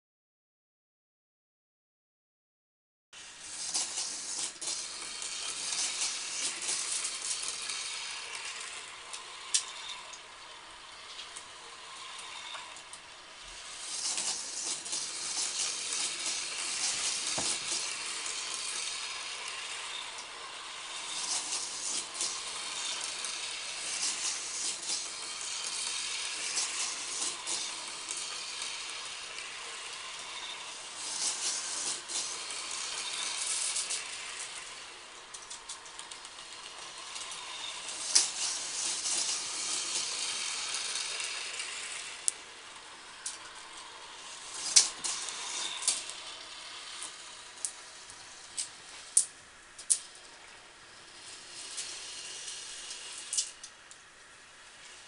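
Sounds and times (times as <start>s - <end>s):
marbles rattling on plastic track: 3.4s - 53.8s.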